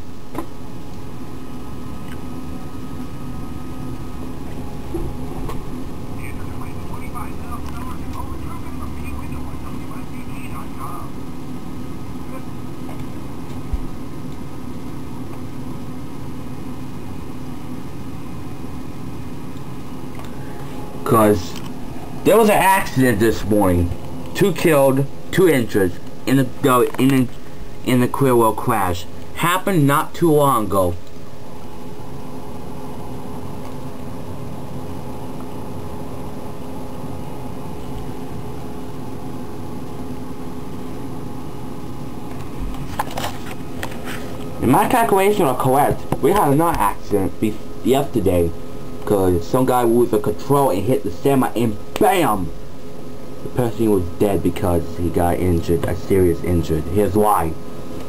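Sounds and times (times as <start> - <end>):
steady mechanical hum with hiss: 0.0 - 58.0.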